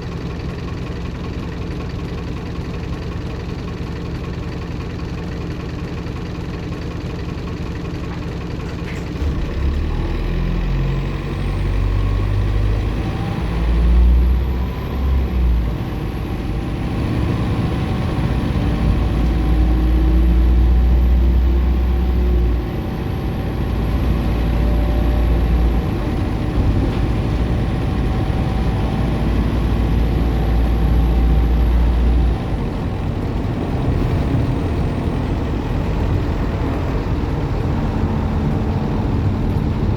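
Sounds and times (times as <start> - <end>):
bus diesel engine pulling under load: 0.0 - 39.9.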